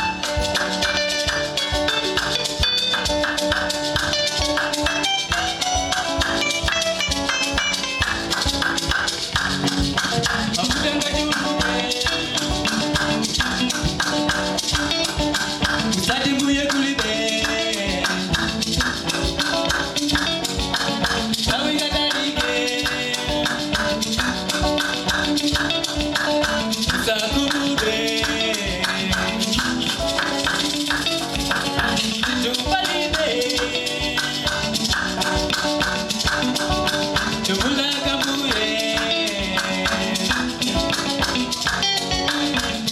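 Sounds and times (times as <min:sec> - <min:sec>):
band music with fast beat: 0:00.0 - 0:42.9.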